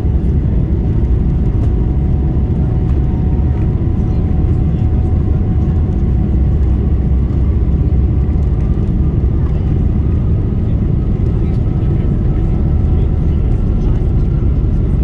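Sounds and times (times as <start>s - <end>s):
faint engine whine: 0.0s - 15.0s
jet engines low rumble: 0.0s - 15.0s.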